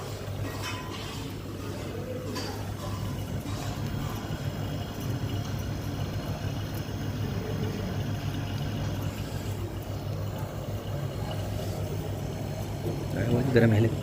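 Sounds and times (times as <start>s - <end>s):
freezer compressor humming: 0.0s - 14.0s.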